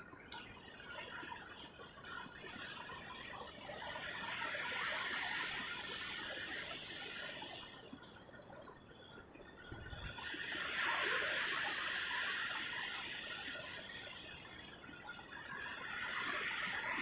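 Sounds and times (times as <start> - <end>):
ocean surf washing on beach: 1.5 - 9.2, 10.0 - 17.0.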